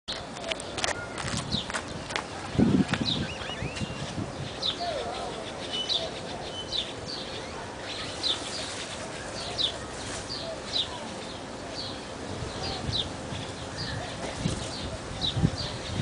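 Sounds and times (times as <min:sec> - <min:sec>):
birds chirping: 0:00.1 - 0:16.0.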